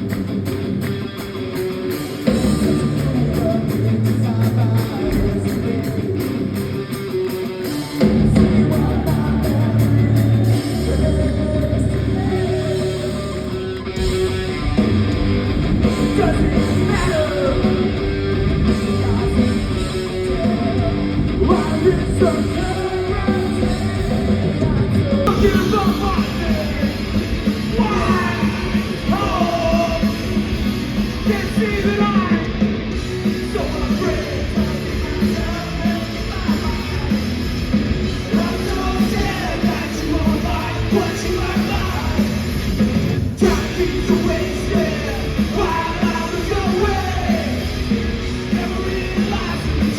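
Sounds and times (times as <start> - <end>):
distorted guitars: 0.0 - 49.9
drums: 0.0 - 49.9
sung and yelled vocals: 2.0 - 6.8, 7.5 - 15.1, 15.7 - 49.9.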